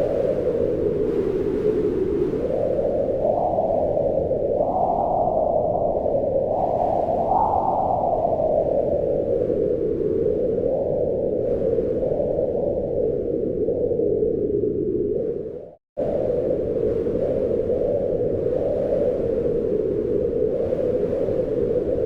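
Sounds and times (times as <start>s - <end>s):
wind moaning in gusts: 0.0s - 22.0s.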